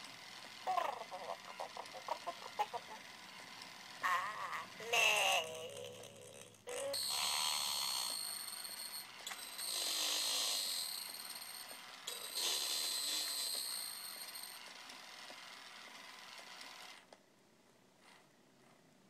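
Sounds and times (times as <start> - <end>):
toy mechanism whirring and clicking: 0.0 - 17.1.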